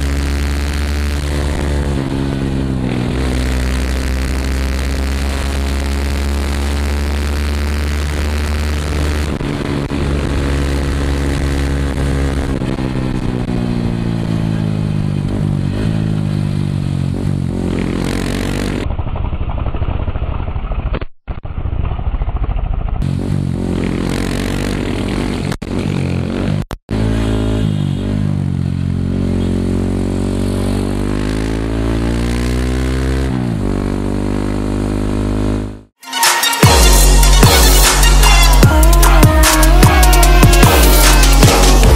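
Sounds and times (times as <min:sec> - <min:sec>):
motorcycle engine revving: 0:00.0 - 0:20.9, 0:21.5 - 0:36.0, 0:36.6 - 0:41.9.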